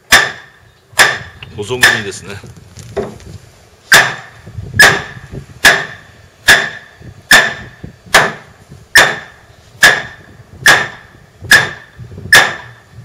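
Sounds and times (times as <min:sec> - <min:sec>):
hammer striking wooden post: 0:00.0 - 0:02.2, 0:03.9 - 0:12.8.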